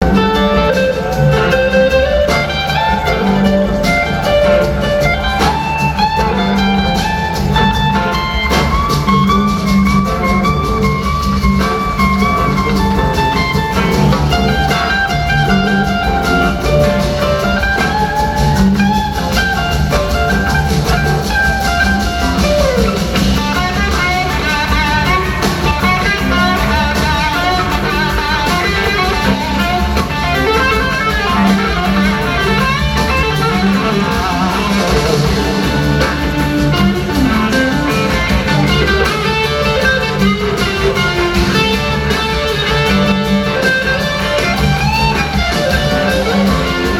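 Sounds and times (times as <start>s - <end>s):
bass guitar: 0.0s - 46.9s
drums: 0.0s - 46.9s
electric guitar lead with slides: 0.0s - 46.9s.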